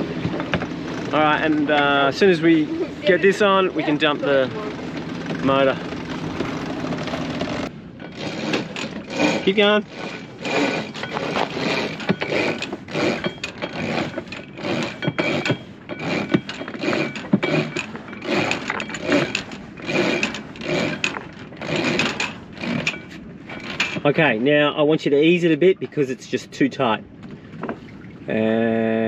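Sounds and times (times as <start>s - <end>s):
winch clicking and grinding: 0.0s - 24.2s.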